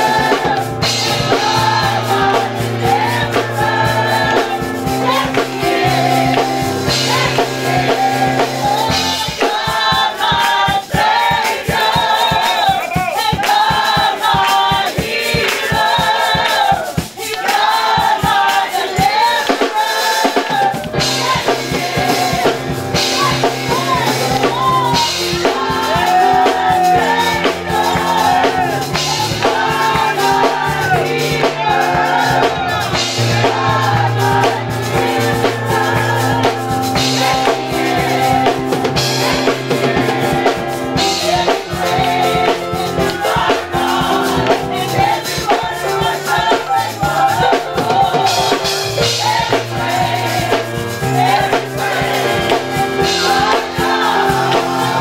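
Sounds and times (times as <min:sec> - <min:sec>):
drums: 0:00.0 - 0:55.0
gospel choir singing: 0:00.0 - 0:55.0.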